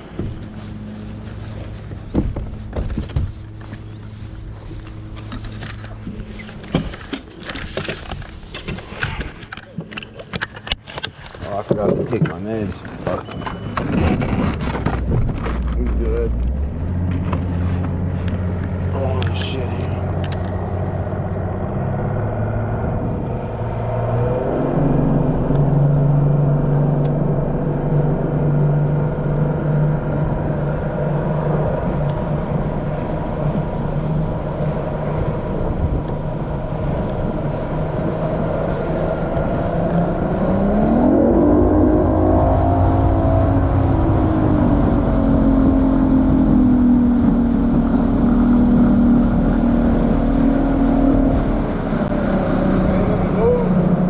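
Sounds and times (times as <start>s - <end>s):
outboard motor running: 0.0s - 23.2s, 24.8s - 54.0s.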